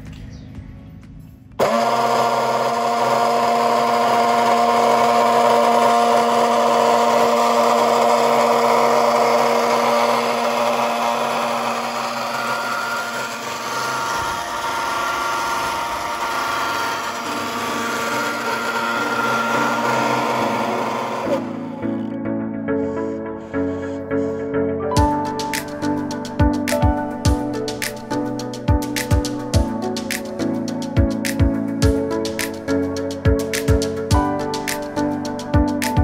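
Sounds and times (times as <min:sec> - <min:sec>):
electric motor whine: 0:01.6 - 0:35.9.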